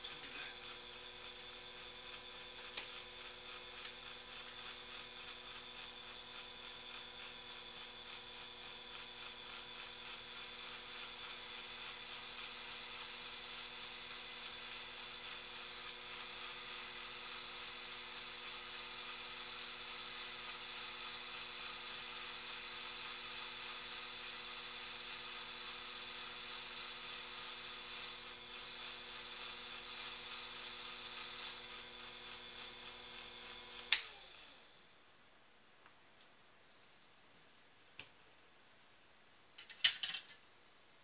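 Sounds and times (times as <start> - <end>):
small electric motor whining: 0.0 - 35.1.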